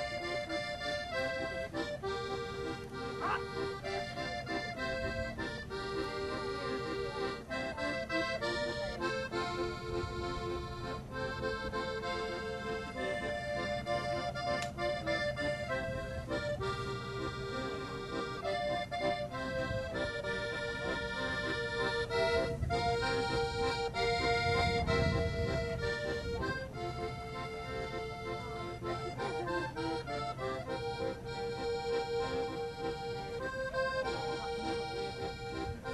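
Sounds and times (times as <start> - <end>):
accordion playing a melody: 0.0 - 35.9.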